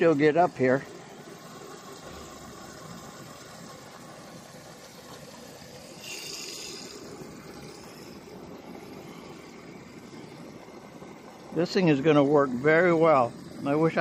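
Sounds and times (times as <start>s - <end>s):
hose water rushing into bladder: 0.0s - 14.0s.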